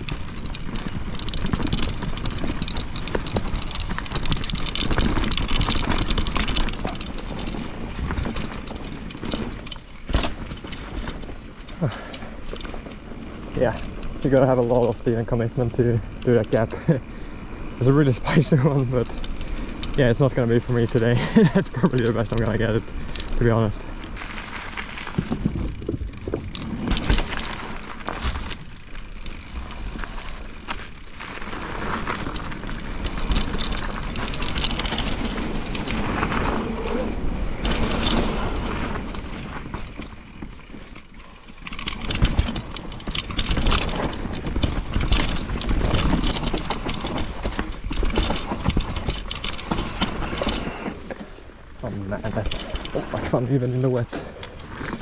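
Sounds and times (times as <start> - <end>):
bike knocking and rattling: 0.0 - 55.0
tyres on wet dirt: 0.0 - 55.0.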